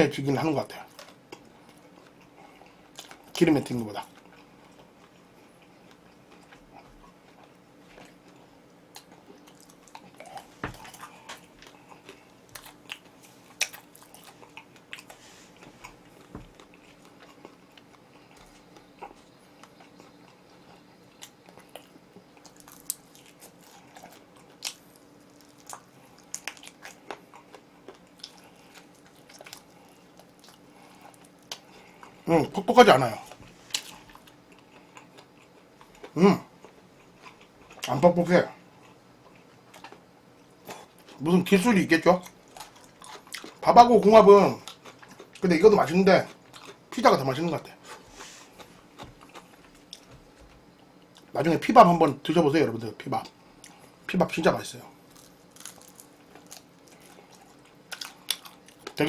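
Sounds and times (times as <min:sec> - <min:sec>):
crunchy chewing: 0:00.7 - 0:51.4, 0:53.2 - 0:59.0.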